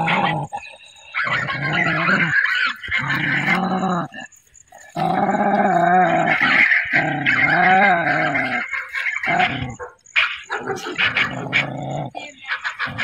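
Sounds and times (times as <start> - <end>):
dog growling moans: 0.0 - 9.8, 10.8 - 13.0.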